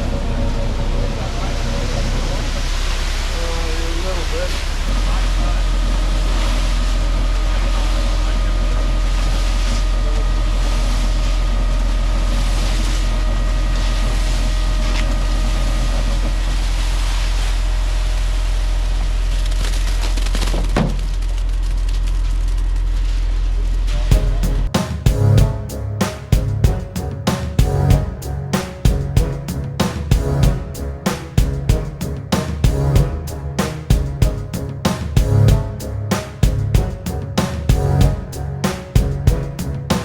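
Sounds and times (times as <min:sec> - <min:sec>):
diesel truck engine droning: 0:00.0 - 0:19.0, 0:24.1 - 0:40.0.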